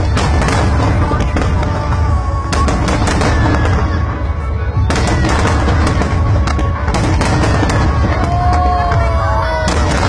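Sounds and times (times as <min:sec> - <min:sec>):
fireworks crackling and banging: 0:00.0 - 0:10.0
music: 0:00.0 - 0:10.0.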